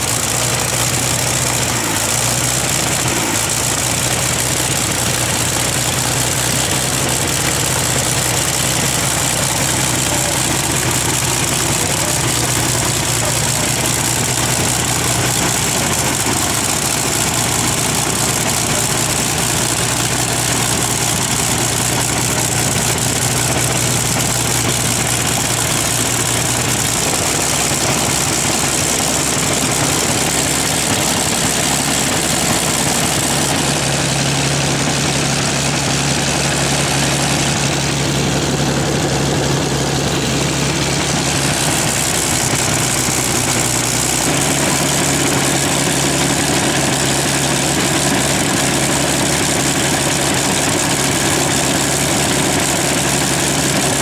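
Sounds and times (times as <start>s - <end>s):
aero engine running: 0.0s - 54.0s.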